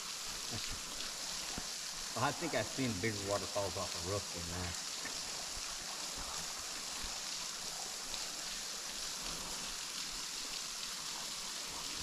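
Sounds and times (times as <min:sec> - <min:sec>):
small waterfall splashing into pool: 0:00.0 - 0:12.0.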